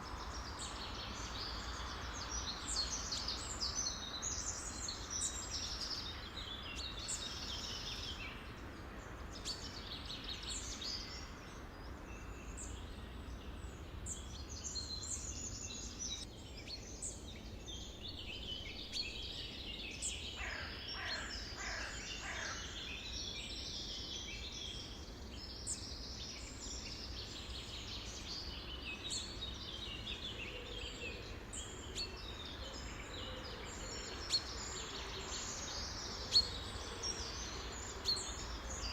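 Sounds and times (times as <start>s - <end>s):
low background noise: 0.0s - 38.9s
songbirds chirping and trilling: 0.0s - 38.9s.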